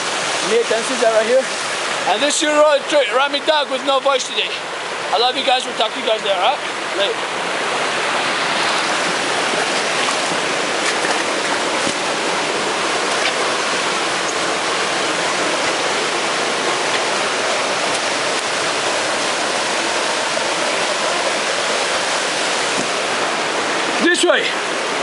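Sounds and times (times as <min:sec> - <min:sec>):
waterfall splashing into pool: 0:00.0 - 0:25.0.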